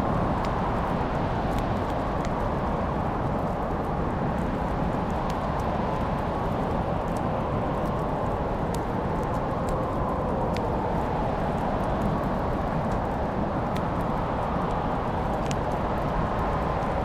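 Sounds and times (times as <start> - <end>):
fire crackles and pops: 0.0 - 17.0.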